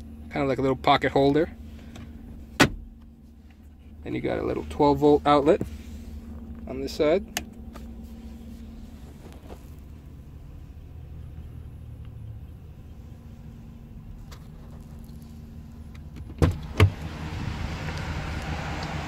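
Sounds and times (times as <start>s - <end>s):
engine idling heard inside cab: 0.0s - 19.0s
outside noise: 0.0s - 19.0s.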